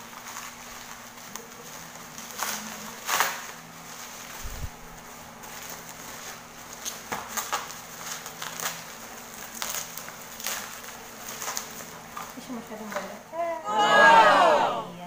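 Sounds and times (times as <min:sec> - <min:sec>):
bubble wrap crinkling: 0:00.0 - 0:13.3.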